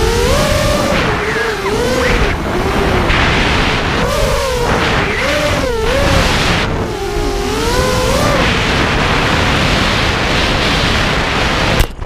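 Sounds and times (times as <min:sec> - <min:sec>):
drone motors whining: 0:00.0 - 0:12.0
rushing air noise: 0:00.0 - 0:12.0.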